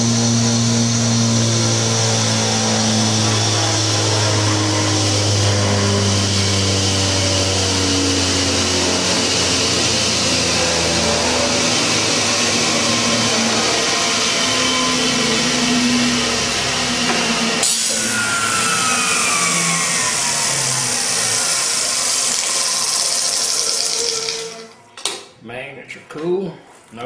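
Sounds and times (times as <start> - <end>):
motor whirring and humming: 0.0 - 24.9
wheel whine coasting down: 0.0 - 25.0.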